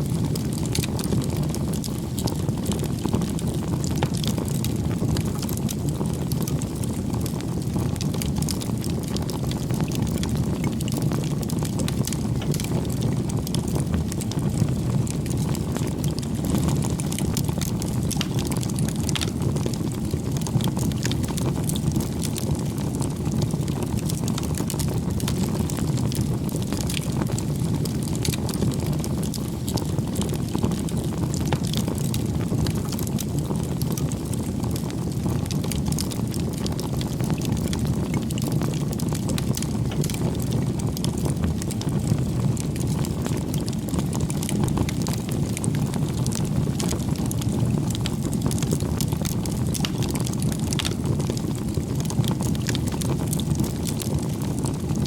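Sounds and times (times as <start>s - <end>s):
bonfire crackling and popping: 0.0s - 55.0s
fire low rumble: 0.0s - 55.0s.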